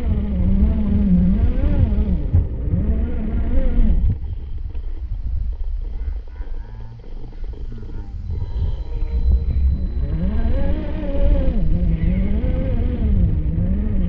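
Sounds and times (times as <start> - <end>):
electric motor and gears whining: 0.0 - 14.0
wind rumble on microphone: 0.0 - 14.0.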